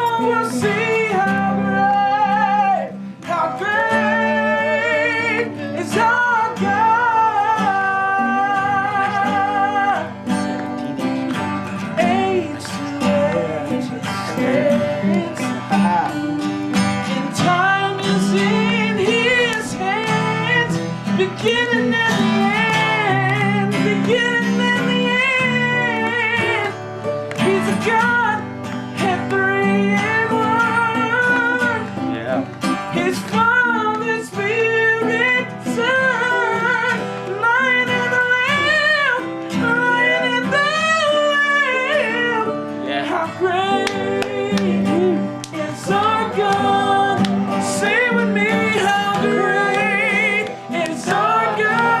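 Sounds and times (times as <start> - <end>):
people singing worship song: 0.0 - 52.0
strummed acoustic guitar: 0.0 - 52.0.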